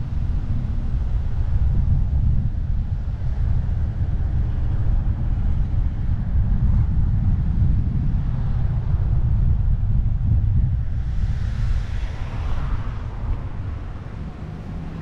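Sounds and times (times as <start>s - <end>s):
car road noise: 0.0s - 15.0s
wind buffeting microphone: 0.0s - 15.0s.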